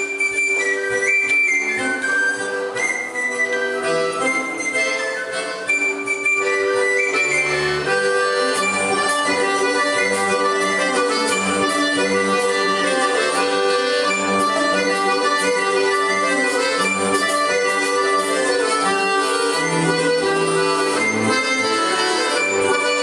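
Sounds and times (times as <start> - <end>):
button accordion: 0.0 - 23.0
hurdy-gurdy: 0.0 - 23.0
wind instrument: 0.0 - 23.0.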